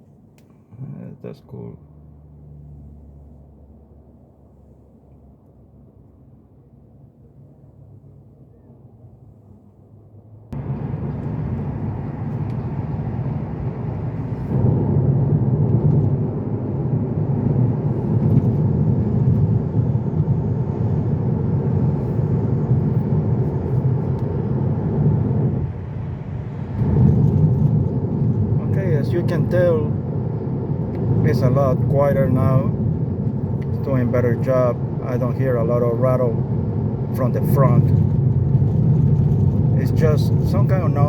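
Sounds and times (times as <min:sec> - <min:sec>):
road and tyre noise inside car: 0:00.0 - 0:41.0.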